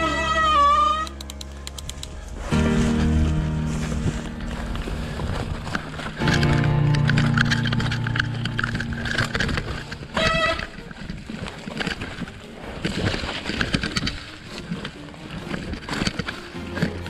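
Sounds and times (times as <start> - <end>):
bike rattling: 1.6 - 17.0
bike tyres squelching through mud: 2.1 - 17.0.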